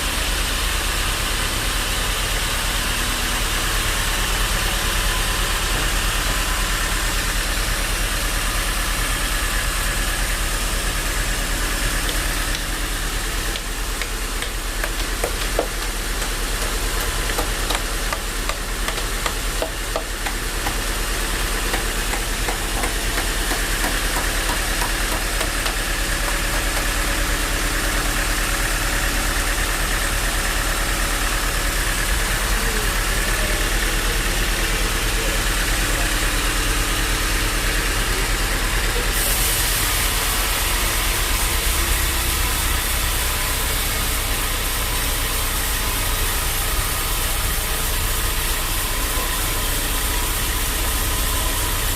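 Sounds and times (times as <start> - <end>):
sawmill machinery running: 0.0 - 51.9.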